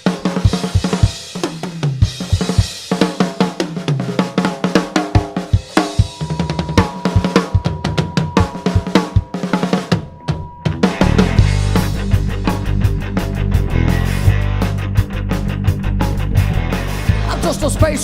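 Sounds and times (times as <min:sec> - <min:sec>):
drum kit solo: 0:00.0 - 0:18.0.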